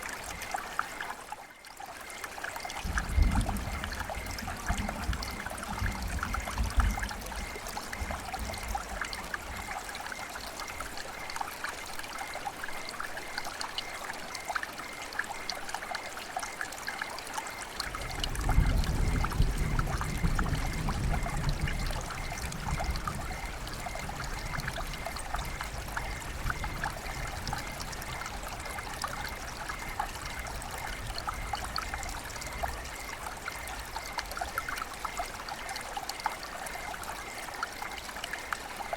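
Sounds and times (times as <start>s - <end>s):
river water flowing: 0.0s - 38.9s
small trickles and splashes: 0.0s - 38.9s.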